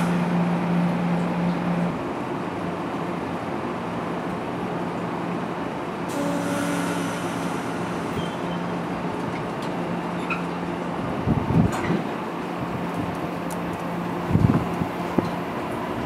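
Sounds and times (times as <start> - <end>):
train low hum: 0.0 - 16.0.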